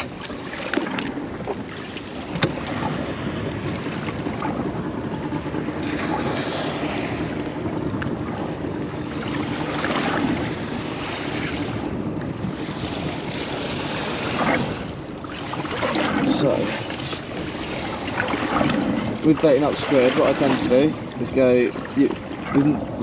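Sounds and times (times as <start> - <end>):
water washing against boat hull: 0.0 - 23.0
wind buffeting microphone: 0.0 - 23.0.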